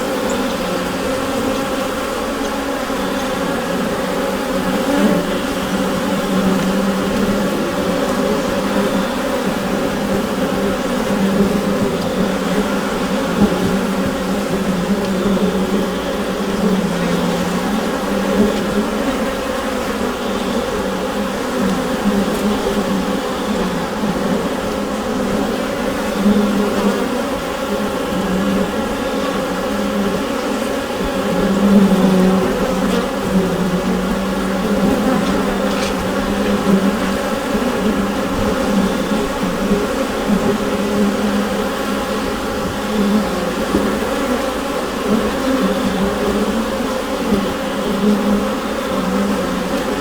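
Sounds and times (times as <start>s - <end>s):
honeybees buzzing in hive: 0.0s - 50.0s.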